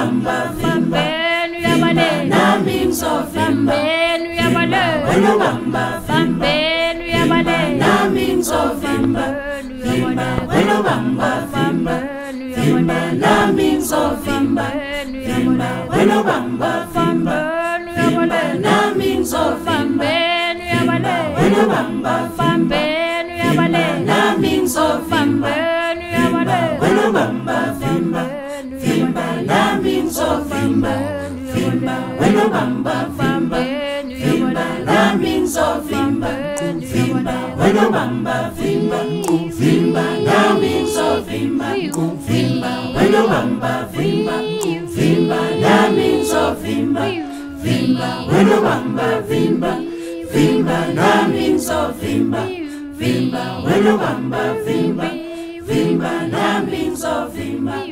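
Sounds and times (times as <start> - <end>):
women's a cappella choir singing: 0.0 - 57.9.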